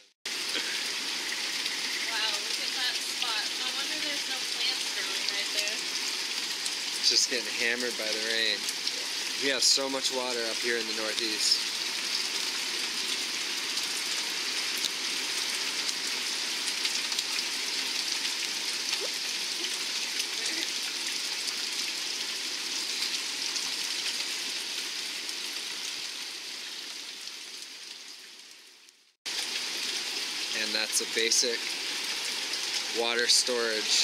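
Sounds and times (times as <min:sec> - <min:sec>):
heavy rain falling: 0:00.0 - 0:28.4, 0:29.3 - 0:34.0.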